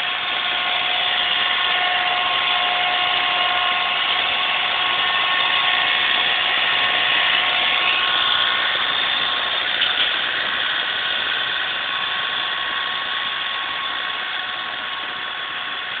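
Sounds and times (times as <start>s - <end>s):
constant whine: 0.0s - 16.0s
tractor engine and snowblower: 0.0s - 16.0s.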